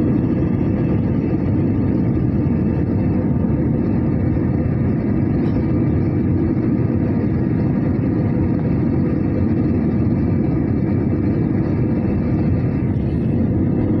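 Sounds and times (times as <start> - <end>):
aircraft engine and airflow noise: 0.0 - 14.0.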